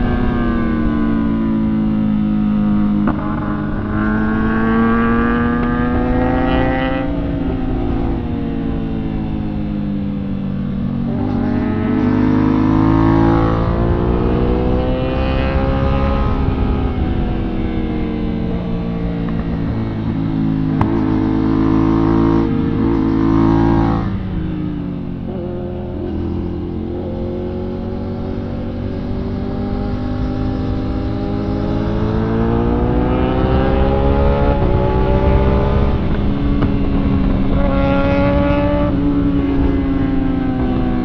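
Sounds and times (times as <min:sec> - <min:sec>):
motorcycle engine revving: 0:00.0 - 0:41.0
wind noise on microphone: 0:00.0 - 0:41.0.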